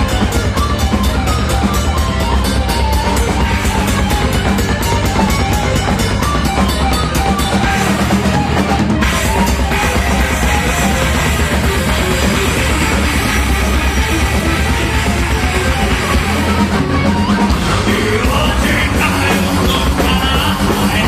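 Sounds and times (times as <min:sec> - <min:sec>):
bass guitar: 0:00.0 - 0:21.0
distorted electric guitars: 0:00.0 - 0:21.0
fast drum kit: 0:00.0 - 0:21.0.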